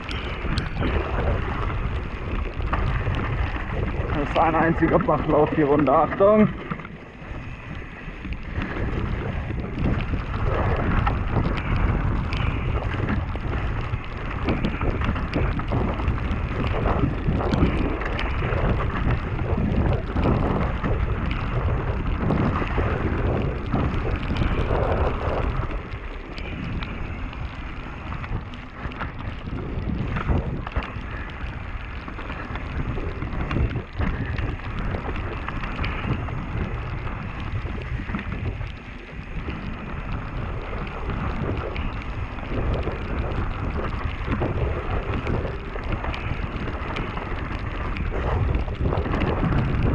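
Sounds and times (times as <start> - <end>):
bike rattling over bumps: 0.0 - 49.9
wind noise on microphone: 0.0 - 49.9.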